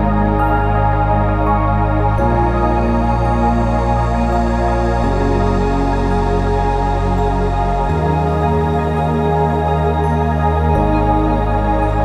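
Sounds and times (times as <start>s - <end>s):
slow sustained chords music: 0.0s - 12.0s.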